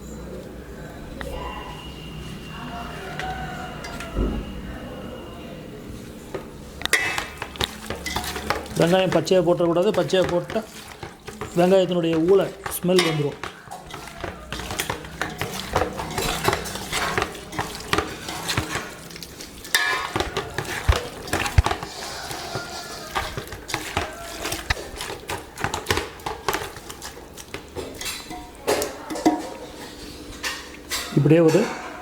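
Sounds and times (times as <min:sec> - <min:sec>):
utensils clinking and scraping in pot: 0:00.0 - 0:32.0.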